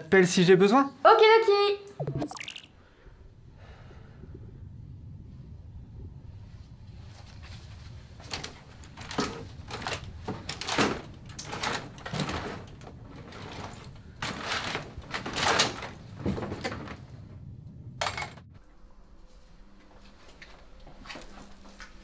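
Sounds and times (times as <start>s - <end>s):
low steady hum: 1.9s - 22.0s.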